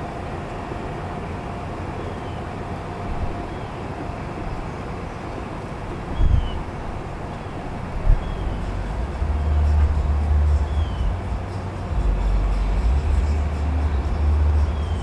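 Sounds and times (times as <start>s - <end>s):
truck engines rumbling: 0.0s - 15.0s.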